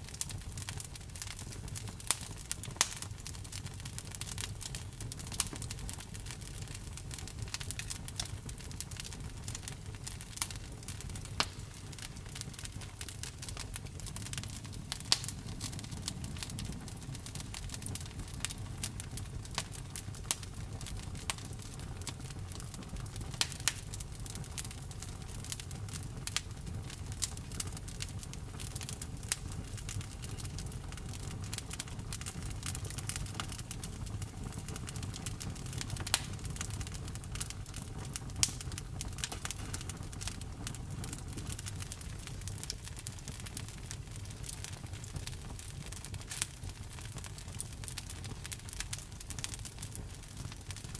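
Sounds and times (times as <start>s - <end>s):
wood fire crackling: 0.0s - 50.9s
burning wood popping: 0.1s - 50.9s.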